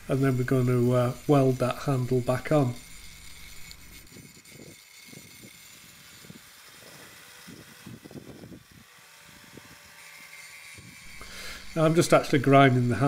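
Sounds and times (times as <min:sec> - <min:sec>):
angle grinder whining: 0:00.0 - 0:13.0.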